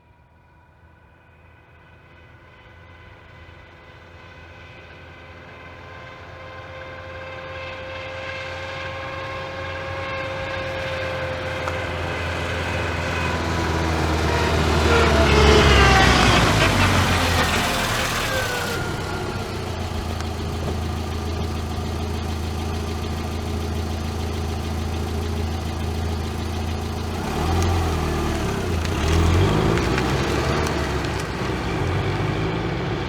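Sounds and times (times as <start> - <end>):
reversing car whine: 6.2 - 33.0
car engine rumble: 6.4 - 33.0.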